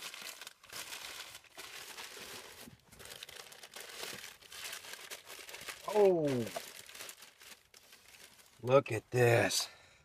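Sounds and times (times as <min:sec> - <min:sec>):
packing paper crinkling: 0:00.0 - 0:08.7.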